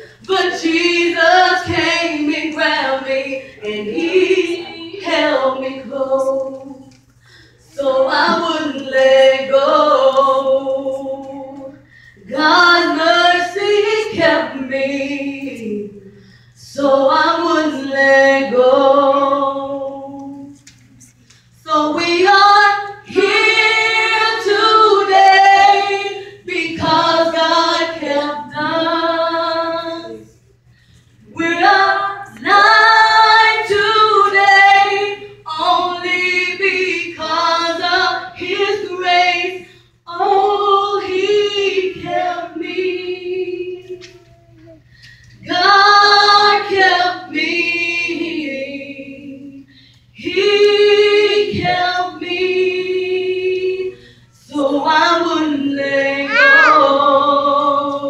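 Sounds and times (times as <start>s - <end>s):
woman singing gospel unaccompanied: 0.0s - 30.5s, 31.2s - 58.0s.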